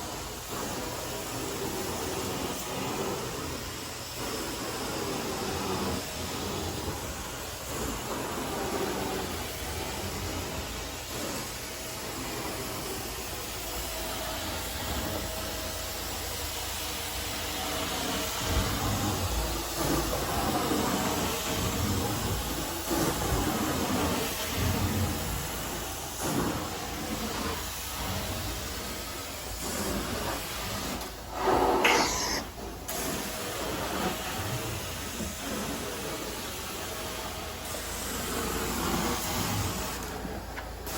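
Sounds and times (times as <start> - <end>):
carpet cleaner spray and suction: 0.0 - 40.9.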